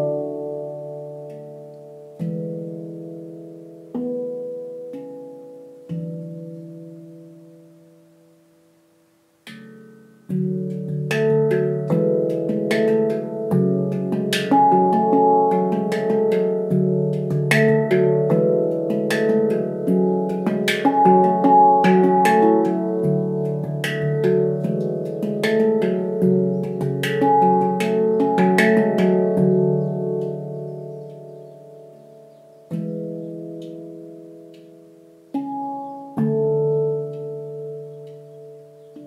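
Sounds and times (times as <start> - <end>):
handpan notes played by hand: 0.0 - 39.0.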